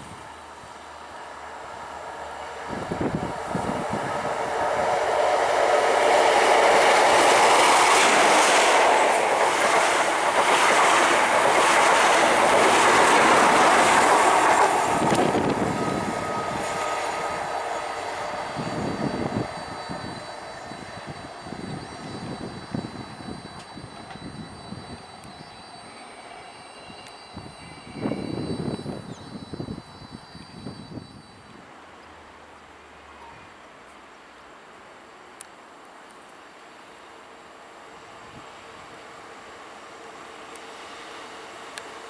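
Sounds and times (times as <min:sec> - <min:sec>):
diesel train engine passing: 0:00.0 - 0:33.2, 0:36.5 - 0:42.0.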